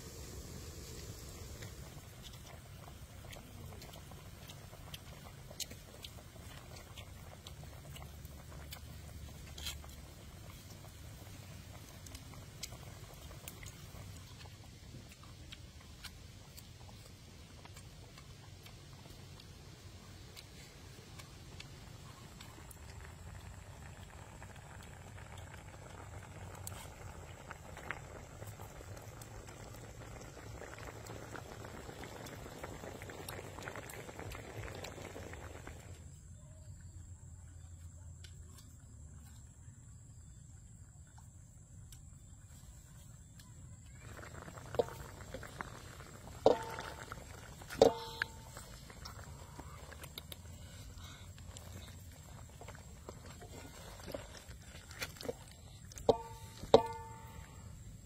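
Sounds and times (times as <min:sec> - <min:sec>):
low steady rumble: 0:00.0 - 0:58.0
pot bubbling with pops: 0:00.0 - 0:58.0.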